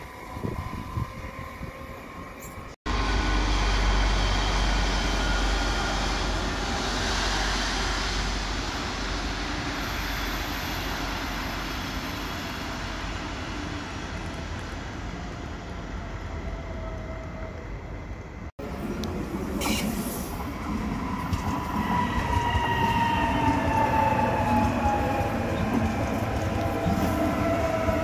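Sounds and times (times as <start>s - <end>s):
passing train rumble: 0.0s - 28.0s.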